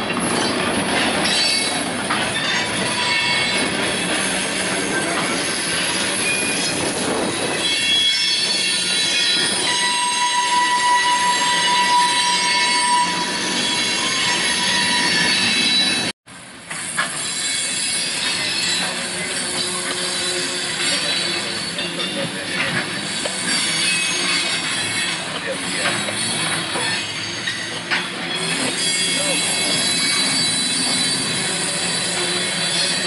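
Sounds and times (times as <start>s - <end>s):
rumble of freight cars: 0.0s - 33.0s
train wheels squealing on rails: 0.0s - 33.0s.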